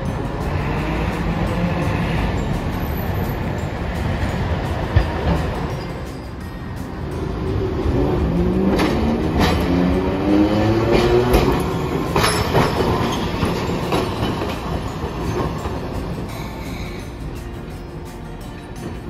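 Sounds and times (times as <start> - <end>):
wheels clacking over rail joints: 0.0 - 19.0.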